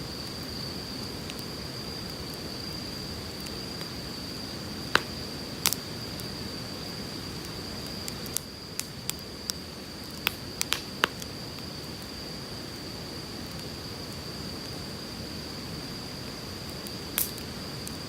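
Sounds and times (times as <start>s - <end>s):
firewood crackling: 0.0s - 18.0s.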